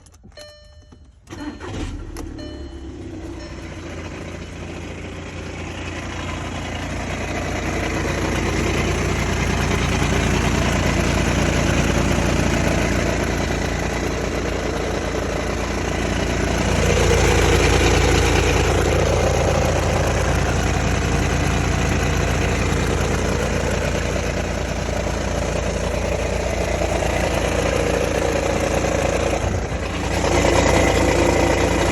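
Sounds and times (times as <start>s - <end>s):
diesel engine starting and running: 0.0s - 31.9s
weird engine noises: 0.0s - 31.9s.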